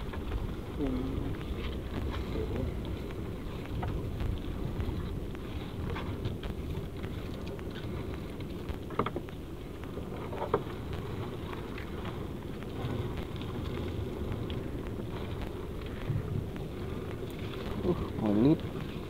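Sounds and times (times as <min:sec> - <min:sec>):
small ticks: 0:00.0 - 0:19.0
wind rumbling on microphone: 0:00.0 - 0:19.0.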